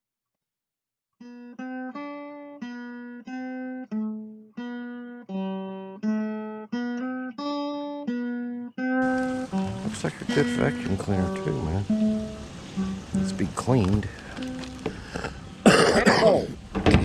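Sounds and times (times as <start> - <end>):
plucked guitar melody: 1.2 - 16.8.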